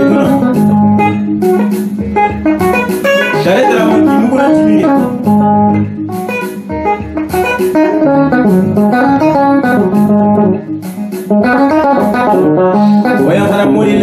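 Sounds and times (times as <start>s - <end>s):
plucked guitar: 0.0s - 14.0s.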